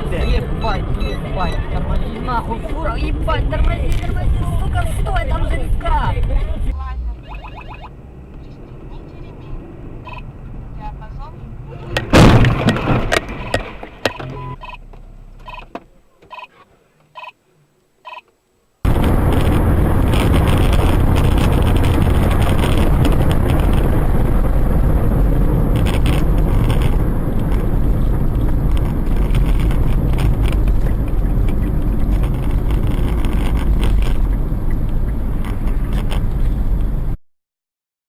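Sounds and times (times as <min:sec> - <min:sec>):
car road and engine noise: 0:00.0 - 0:37.2.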